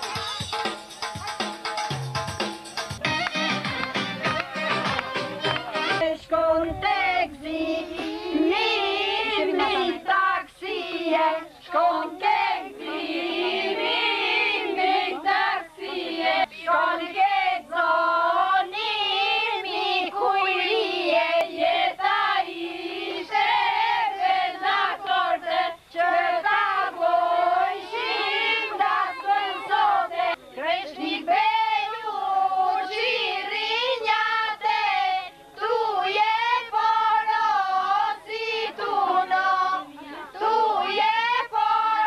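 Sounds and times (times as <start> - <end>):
women and girls singing in chorus: 4.4 - 42.0.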